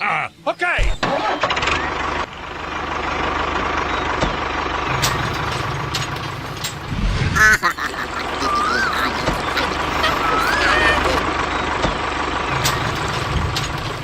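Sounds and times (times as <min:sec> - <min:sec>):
tractor engine idling: 0:01.0 - 0:14.0.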